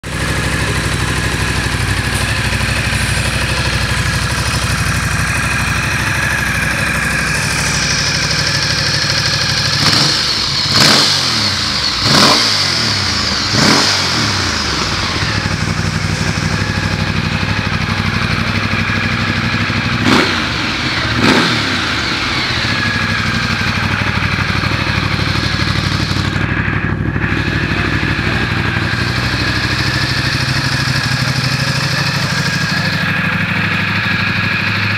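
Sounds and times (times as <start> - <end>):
engine throttle blips: 0.0 - 34.9
motorcycle engine idling: 0.0 - 34.9.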